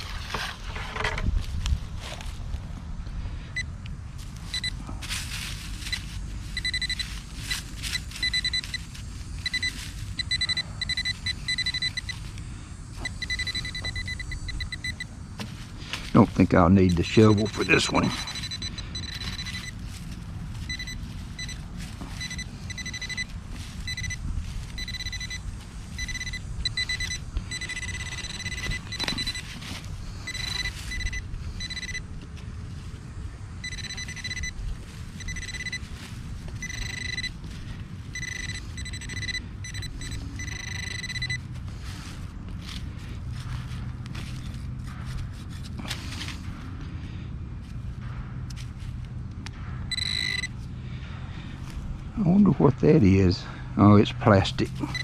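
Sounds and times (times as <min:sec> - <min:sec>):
low rumble of handling and wind: 0:00.0 - 0:55.0
metal detector beeping: 0:03.5 - 0:32.5, 0:33.6 - 0:46.7, 0:49.4 - 0:51.5, 0:54.4 - 0:55.0.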